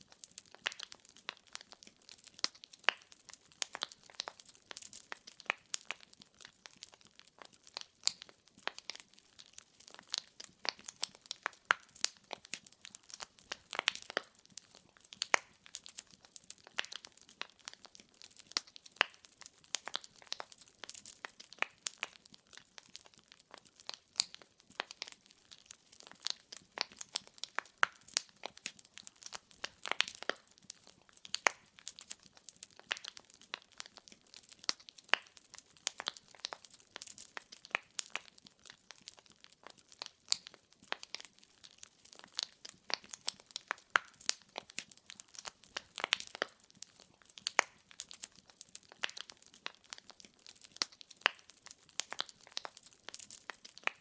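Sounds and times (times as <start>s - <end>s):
logs crackling in a fireplace: 0.0s - 54.0s.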